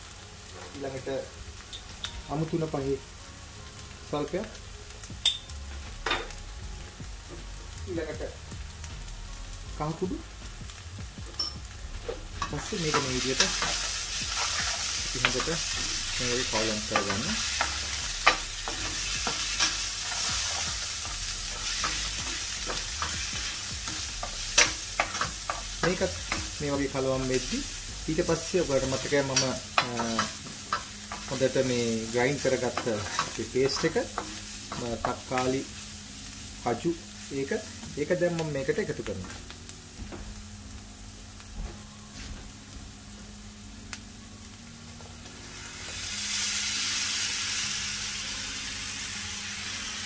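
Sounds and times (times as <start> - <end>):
onions sizzling in oil: 0.0 - 50.0.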